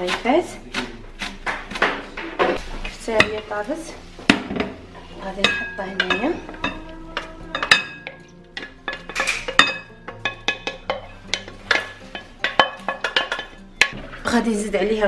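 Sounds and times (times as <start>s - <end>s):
wooden spoon scraping frying pan: 0.0s - 14.4s.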